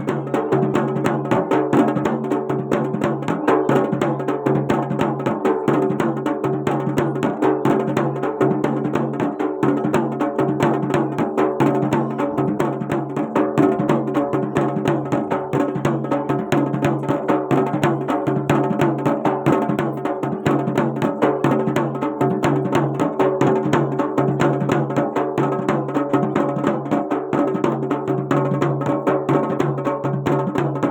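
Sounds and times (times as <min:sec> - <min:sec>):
fast folk drumming: 0:00.0 - 0:30.9.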